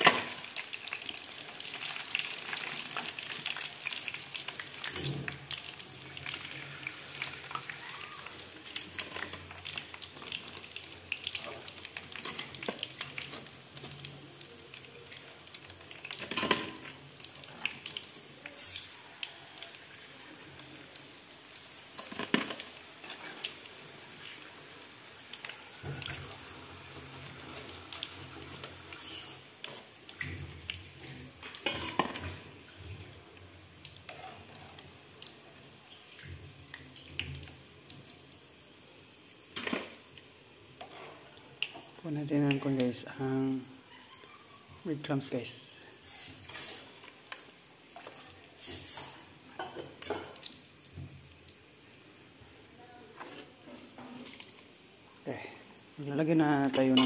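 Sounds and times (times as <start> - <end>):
chicken deep-frying in hot oil: 0.0 - 57.0.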